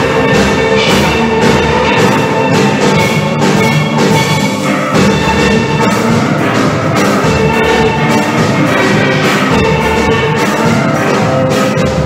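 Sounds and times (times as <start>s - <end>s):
steady percussion beat: 0.0s - 12.0s
steel pans ringing: 0.0s - 12.0s.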